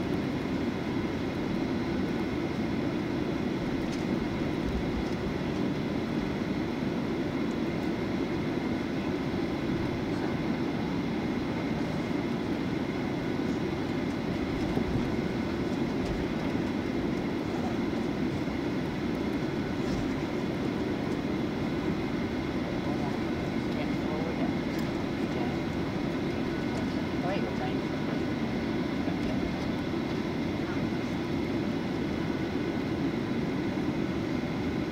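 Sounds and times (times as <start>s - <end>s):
airliner engine drone: 0.0s - 34.9s.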